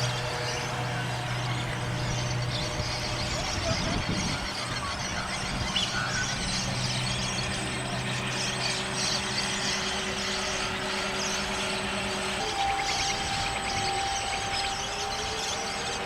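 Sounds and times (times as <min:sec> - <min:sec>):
engine-like drone: 0:00.0 - 0:16.0
higher steady tone: 0:00.0 - 0:16.0.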